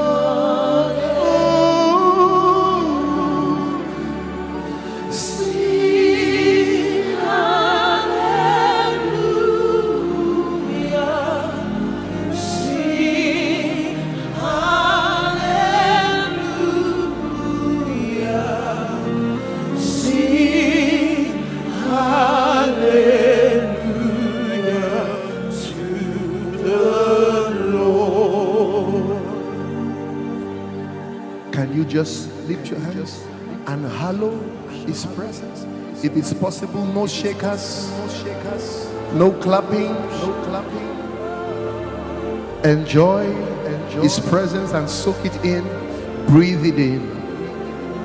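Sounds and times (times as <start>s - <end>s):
gospel singing: 0.0s - 48.0s.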